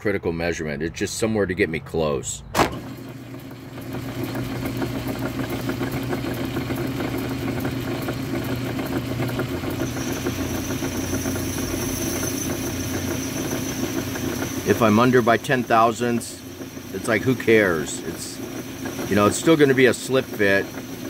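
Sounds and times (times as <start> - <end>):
metal lathe running: 2.6 - 21.0.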